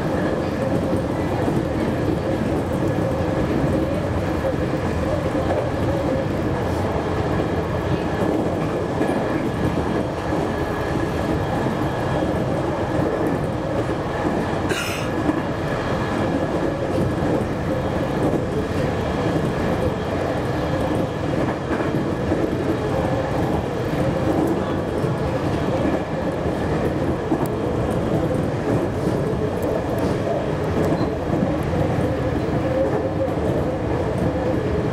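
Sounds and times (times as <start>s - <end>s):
rumble of wheels on rail: 0.0s - 34.9s.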